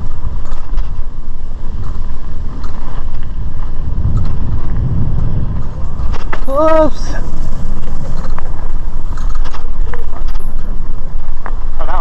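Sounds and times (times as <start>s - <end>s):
bike clicks and rattles: 0.0s - 12.0s
wind buffeting microphone: 0.0s - 12.0s.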